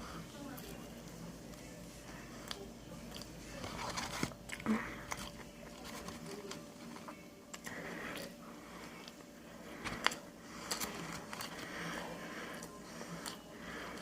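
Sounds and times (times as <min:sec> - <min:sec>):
person chewing crunchy food: 0:02.4 - 0:14.0.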